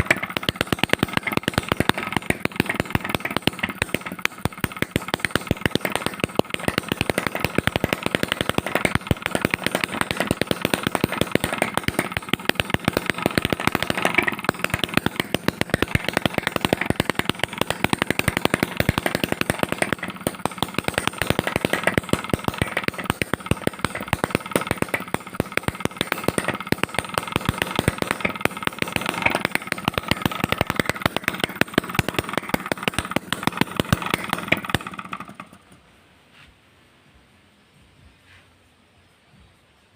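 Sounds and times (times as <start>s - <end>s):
two-stroke engine running: 0.0s - 36.0s.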